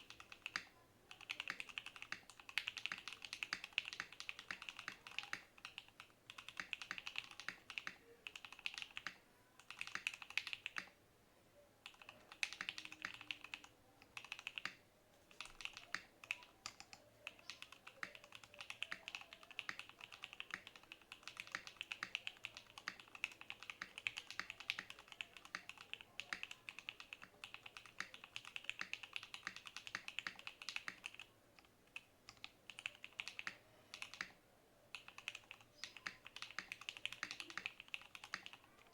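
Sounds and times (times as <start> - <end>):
mechanical keyboard typing: 0.0 - 10.9, 11.8 - 38.9.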